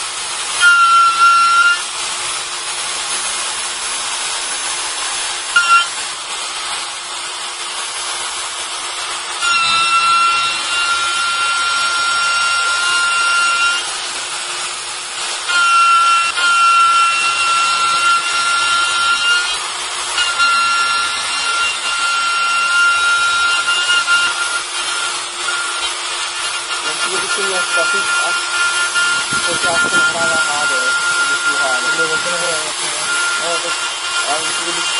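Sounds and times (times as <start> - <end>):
router spindle whining: 0.0 - 34.9.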